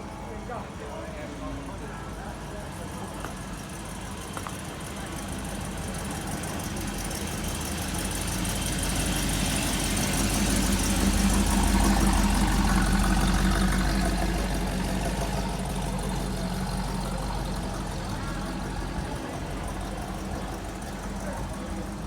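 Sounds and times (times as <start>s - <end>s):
car engine running: 3.6s - 22.0s.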